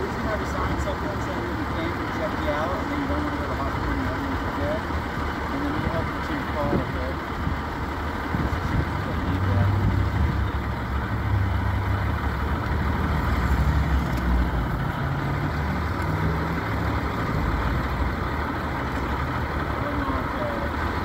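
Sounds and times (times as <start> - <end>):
large vehicle engine idling: 0.0 - 21.0.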